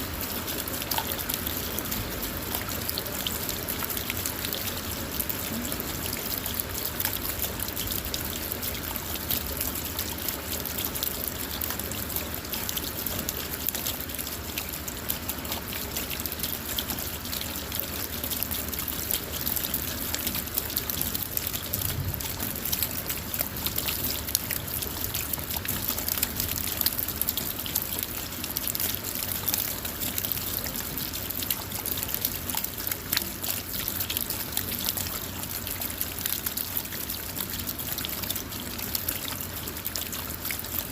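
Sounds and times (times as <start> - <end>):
rain falling on a car: 0.0 - 40.9.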